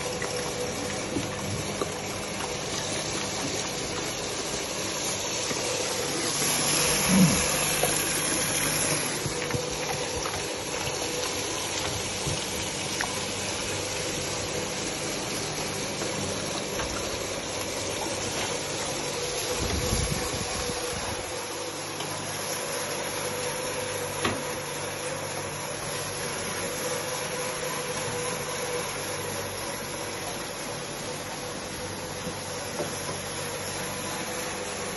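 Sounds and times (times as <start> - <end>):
electric fan whirring: 0.0 - 34.9.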